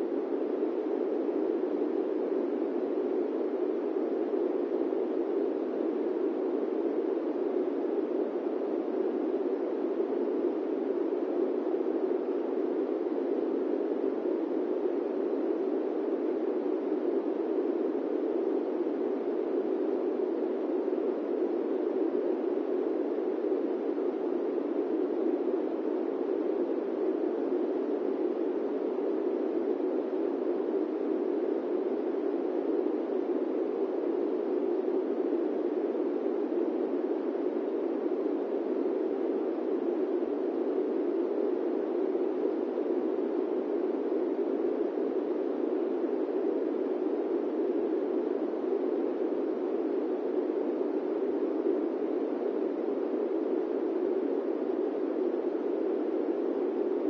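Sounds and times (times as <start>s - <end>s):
airplane cabin white noise: 0.0s - 57.0s.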